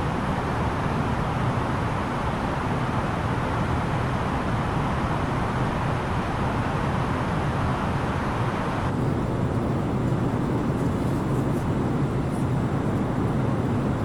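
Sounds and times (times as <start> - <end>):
low jet engine drone: 0.0 - 14.0.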